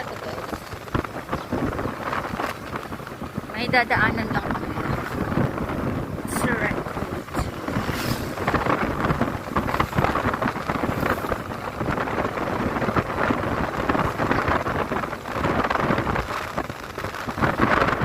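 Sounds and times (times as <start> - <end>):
motorcycle engine: 0.0 - 18.0
road noise: 0.0 - 18.0
wind buffeting microphone: 0.0 - 18.0.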